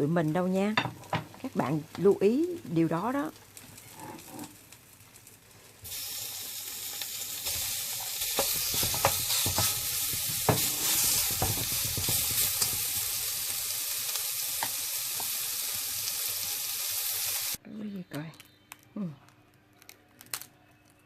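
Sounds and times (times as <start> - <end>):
crepe sizzling in oil: 0.0 - 17.6
oil crackling and popping: 1.1 - 17.6, 19.7 - 21.0.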